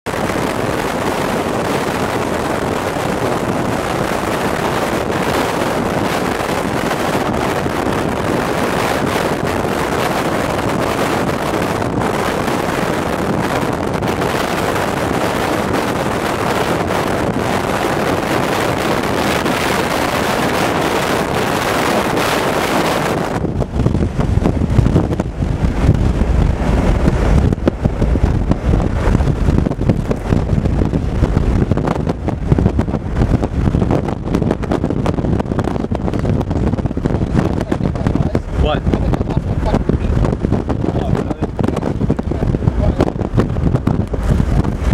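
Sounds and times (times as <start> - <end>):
car wind and road noise: 0.0 - 44.9
wind buffeting microphone: 0.0 - 44.9.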